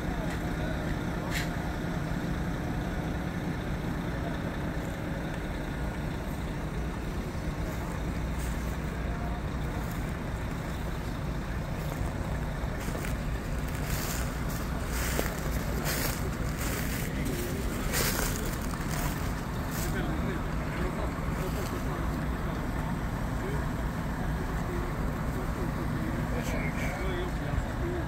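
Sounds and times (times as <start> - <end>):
heavy truck engine idling: 0.0 - 28.0.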